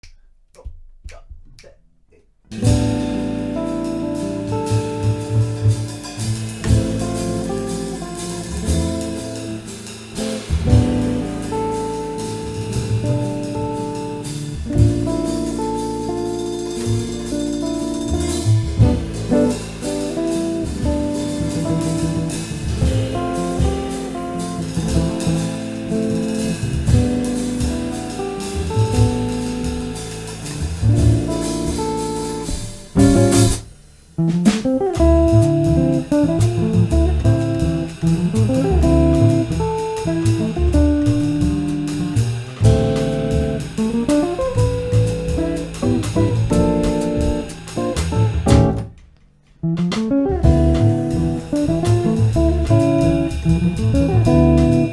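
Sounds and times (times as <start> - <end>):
double bass: 2.5 - 54.9
drums: 2.5 - 54.9
electric guitar melody: 2.6 - 33.6, 34.2 - 49.0, 49.6 - 54.9.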